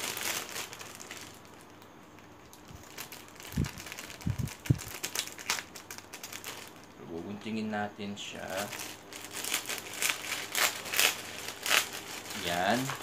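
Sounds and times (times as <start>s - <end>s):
plastic bag crinkling: 0.0s - 7.0s, 8.4s - 13.0s.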